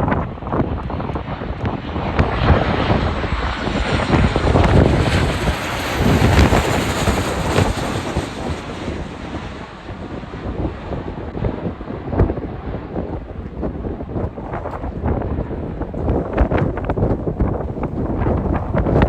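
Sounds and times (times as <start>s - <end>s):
jet engines passing close: 0.0s - 19.0s
wind buffeting microphone: 0.0s - 19.0s.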